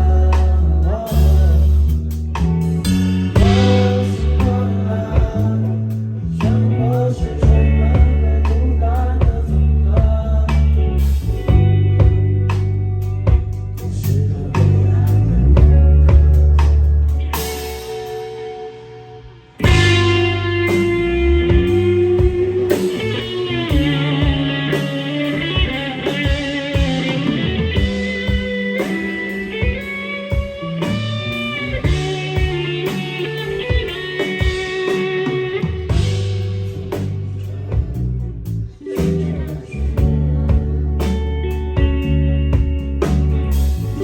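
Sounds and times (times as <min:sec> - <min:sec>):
bass and drums: 0:00.0 - 0:44.0
electric guitar with bending notes: 0:00.0 - 0:44.0.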